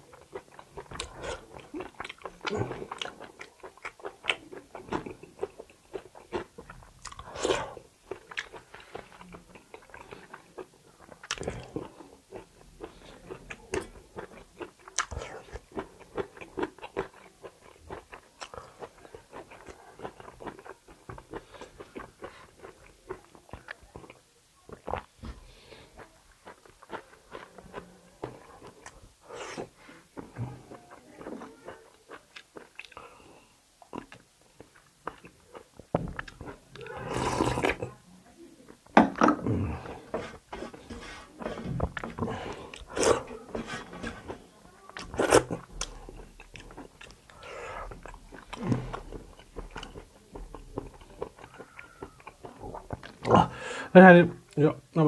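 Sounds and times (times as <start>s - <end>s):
person chewing meat: 0.0s - 37.9s, 39.4s - 53.6s.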